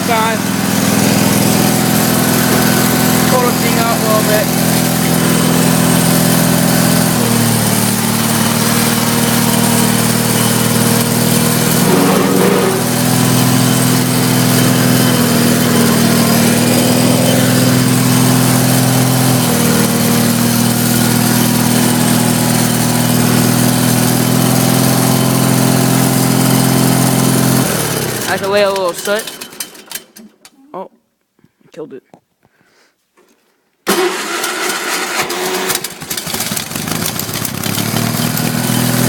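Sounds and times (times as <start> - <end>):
garden tractor engine running: 0.0 - 30.0, 33.9 - 39.0.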